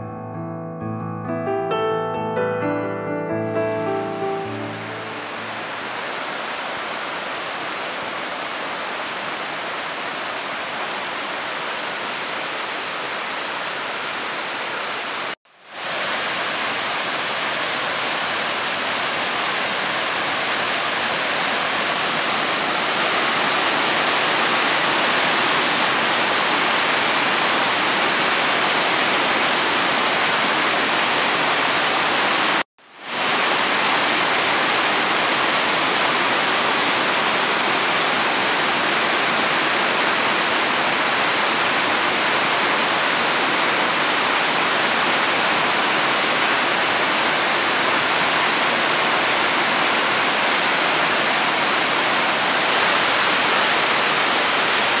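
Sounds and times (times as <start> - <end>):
waterfall crashing over rock: 4.5 - 55.0.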